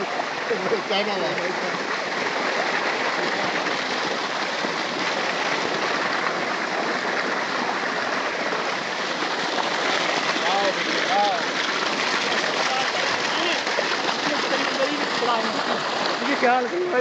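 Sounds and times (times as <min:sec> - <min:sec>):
water gushing into a pool: 0:00.0 - 0:17.0.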